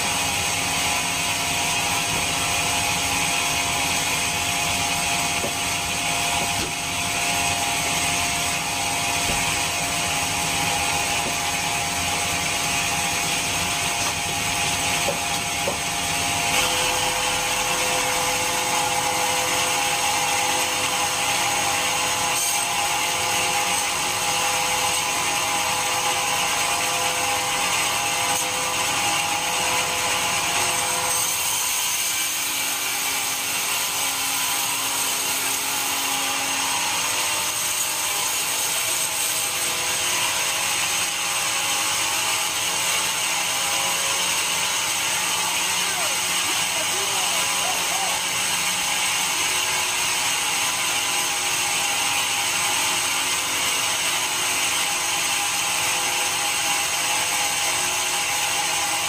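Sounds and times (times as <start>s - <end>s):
band sawmill cutting log: 0.0s - 59.0s.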